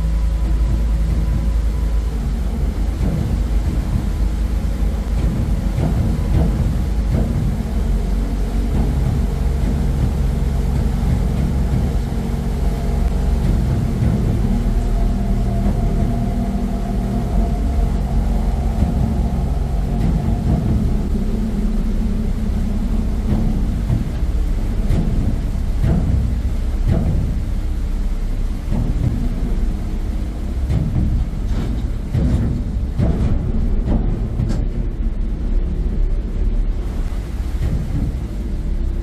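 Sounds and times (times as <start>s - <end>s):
diesel engine drone: 0.0s - 39.0s
faint higher hum: 0.0s - 39.0s.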